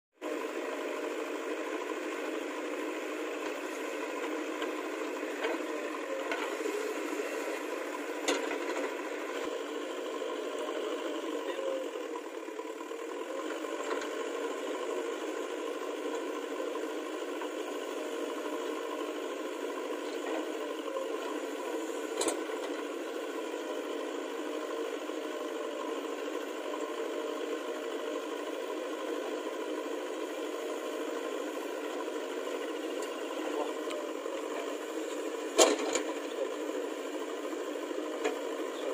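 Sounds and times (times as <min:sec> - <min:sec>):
diesel engine running: 0:00.2 - 0:38.9.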